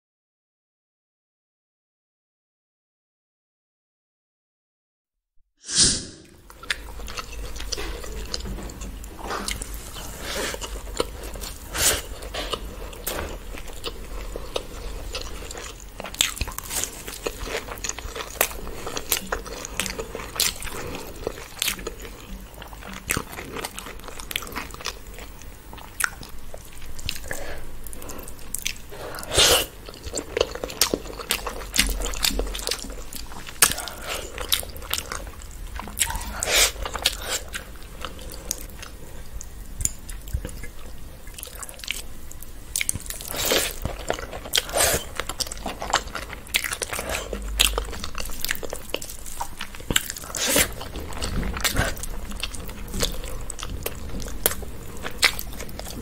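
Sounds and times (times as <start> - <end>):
low steady hum: 6.1 - 56.0
chewing and mouth clicks: 6.5 - 56.0.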